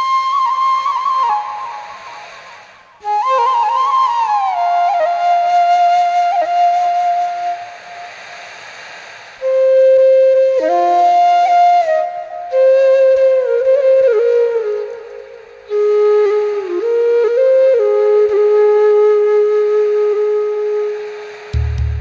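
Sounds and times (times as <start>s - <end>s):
flute music with slides: 0.0s - 8.3s, 9.4s - 22.0s.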